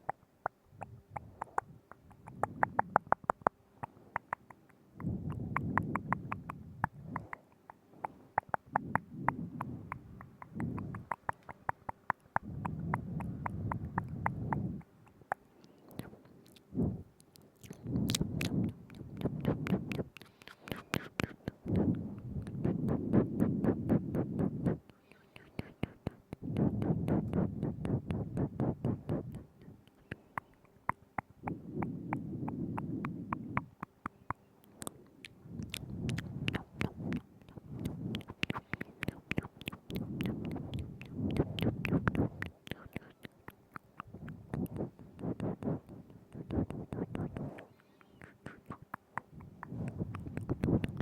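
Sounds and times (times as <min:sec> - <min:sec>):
wet tongue and lip clicks: 0:00.0 - 0:51.0.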